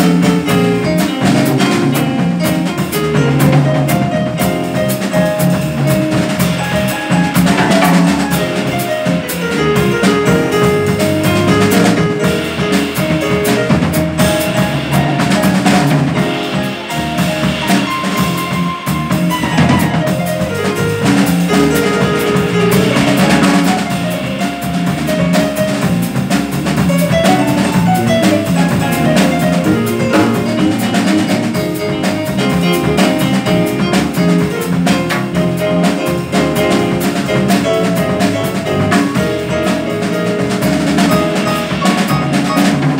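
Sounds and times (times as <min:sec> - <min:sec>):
busy drumming: 0:00.0 - 0:42.9
double bass: 0:00.0 - 0:42.9
piano: 0:00.0 - 0:42.9.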